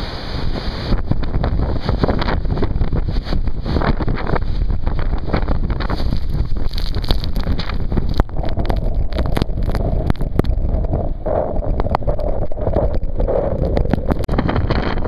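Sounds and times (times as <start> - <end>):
surf breaking against seawall: 0.0 - 15.0
wind buffeting microphone: 0.0 - 15.0.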